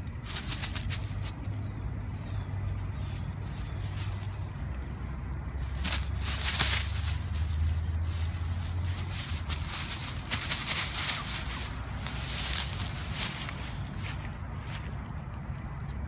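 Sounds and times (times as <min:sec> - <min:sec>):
dry leaves crunching and rustling: 0:00.0 - 0:15.3.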